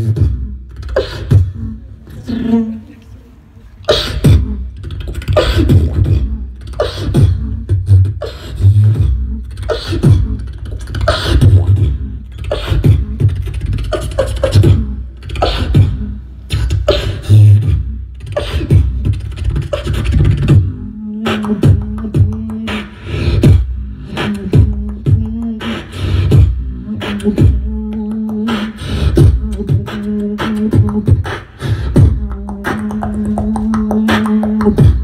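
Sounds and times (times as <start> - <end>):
beatboxing into a microphone: 0.0 - 35.0.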